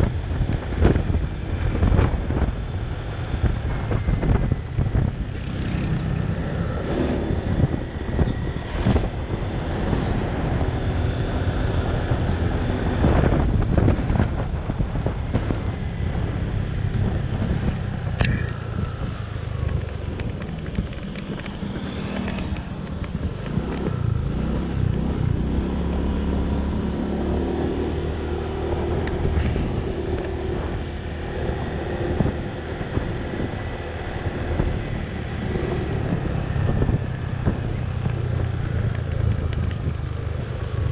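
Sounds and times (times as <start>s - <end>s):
tyre and wind noise: 0.0s - 40.9s.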